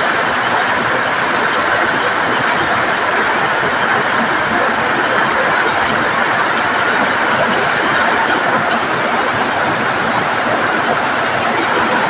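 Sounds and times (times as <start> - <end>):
heavy rain on metal roofs: 0.0 - 12.0.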